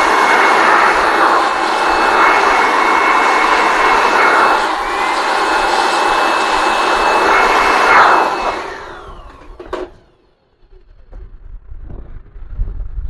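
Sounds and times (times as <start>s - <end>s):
hot-air blower whining: 0.0s - 10.9s.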